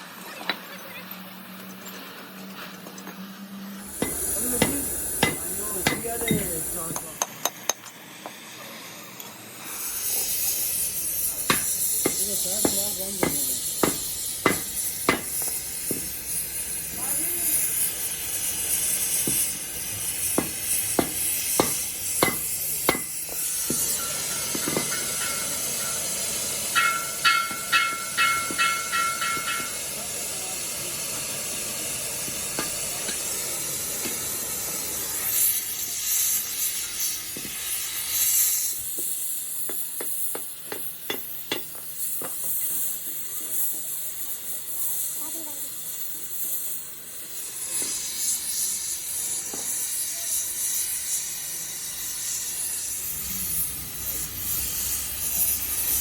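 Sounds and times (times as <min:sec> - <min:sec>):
steady hiss: 0:03.8 - 0:56.0.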